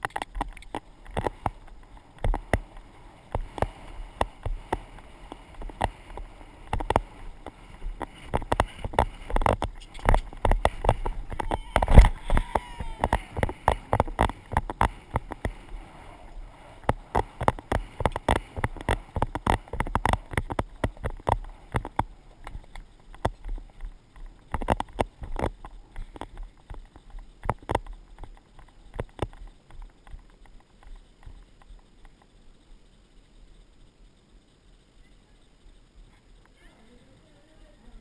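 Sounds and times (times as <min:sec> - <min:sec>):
horse hooves thudding: 0:00.0 - 0:32.4.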